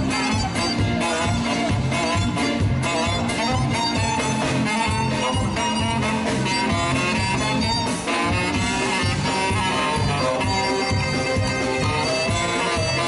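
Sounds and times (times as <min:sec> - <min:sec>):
band music with steady beat: 0:00.0 - 0:13.0.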